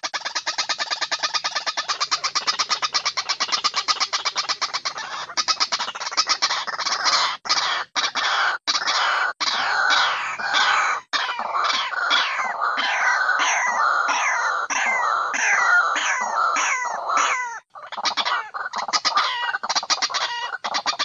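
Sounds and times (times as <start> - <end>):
bird call with harsh notes: 0.0 - 21.0.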